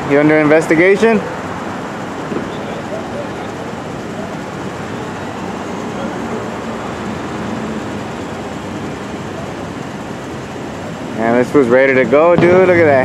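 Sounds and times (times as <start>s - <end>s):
vehicle and street noise: 0.0s - 13.0s.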